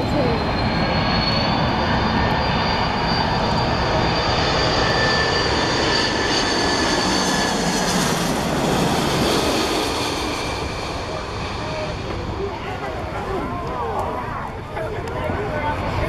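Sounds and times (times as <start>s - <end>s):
high engine whine: 0.0s - 16.0s
jet engines roaring: 0.0s - 16.0s.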